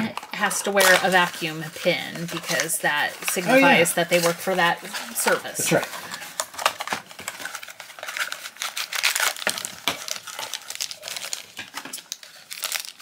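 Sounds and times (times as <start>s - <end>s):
cardboard box and wrapper crinkling: 0.0s - 13.0s.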